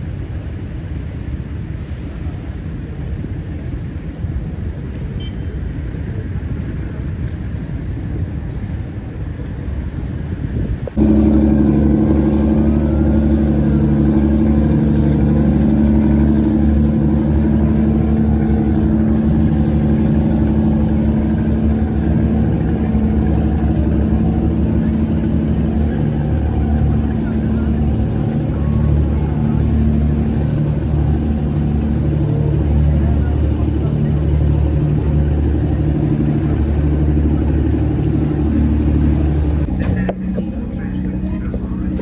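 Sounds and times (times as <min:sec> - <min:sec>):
low engine drone with hum: 0:00.0 - 0:42.0
wind rumbling on microphone: 0:00.0 - 0:42.0.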